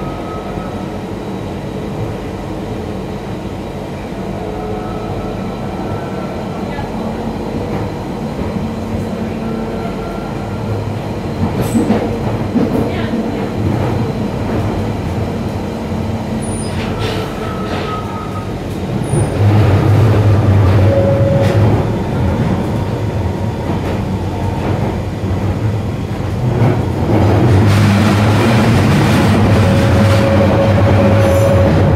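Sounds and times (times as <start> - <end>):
train wheels rumbling on rail: 0.0 - 31.9.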